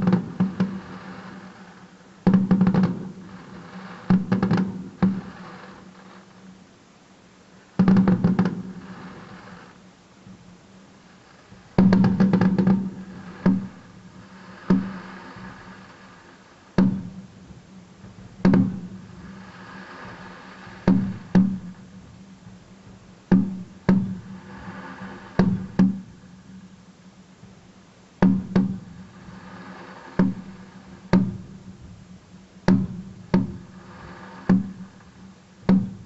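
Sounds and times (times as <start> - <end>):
fireworks exploding: 0.0 - 6.6, 7.6 - 26.8, 28.4 - 36.0.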